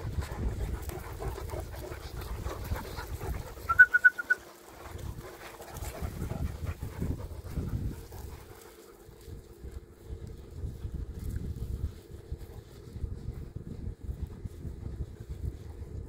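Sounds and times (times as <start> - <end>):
wind on microphone: 0.0 - 4.0, 4.8 - 16.0.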